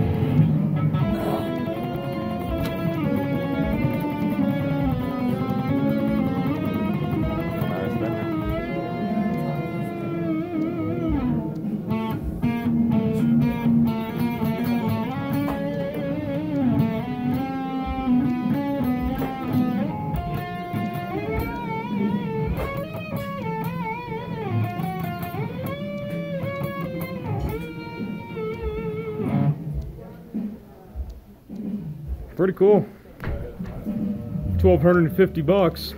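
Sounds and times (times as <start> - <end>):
heavy metal electric guitar: 0.0 - 29.6.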